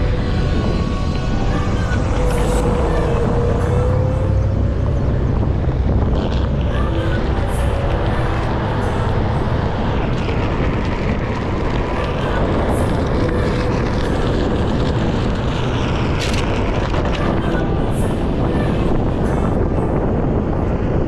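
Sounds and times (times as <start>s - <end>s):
wheel rolling over asphalt: 0.0s - 20.4s
wind buffeting microphone: 0.0s - 21.0s.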